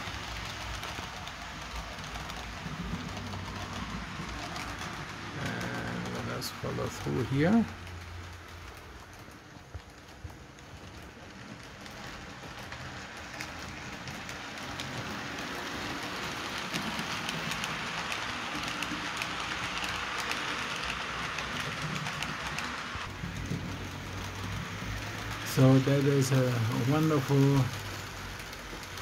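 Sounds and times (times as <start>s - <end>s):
model train wheels rolling on rail: 0.0s - 29.0s.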